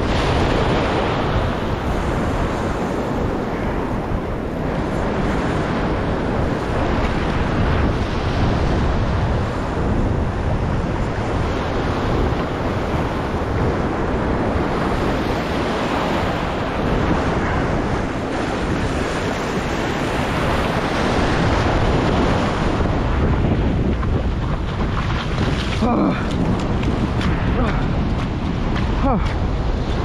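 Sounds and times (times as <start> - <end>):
sea surf breaking: 0.0 - 30.0
wind buffeting microphone: 0.0 - 30.0.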